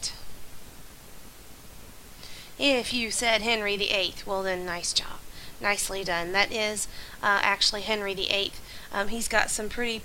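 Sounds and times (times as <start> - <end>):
faint steady background hiss: 0.0 - 10.0.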